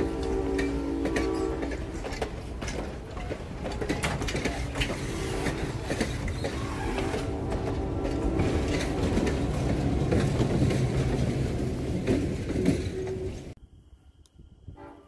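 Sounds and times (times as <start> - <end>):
train rolling past: 0.0 - 13.6
wheels clicking over rail joints: 0.0 - 13.6.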